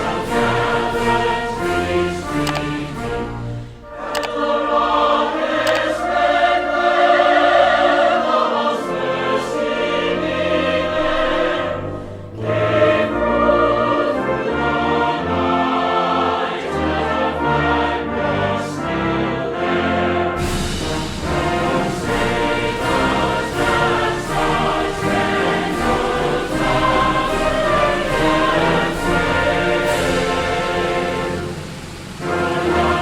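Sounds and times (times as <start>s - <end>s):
choir singing sustained chords: 0.0s - 33.0s
orchestral accompaniment: 0.0s - 33.0s.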